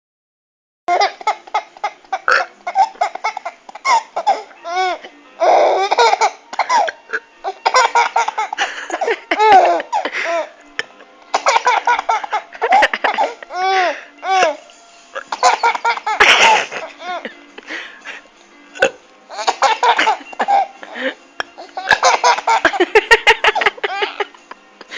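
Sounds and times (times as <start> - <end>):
baby giggling: 0.9 - 10.5, 11.3 - 14.6, 15.2 - 17.4, 19.3 - 24.4.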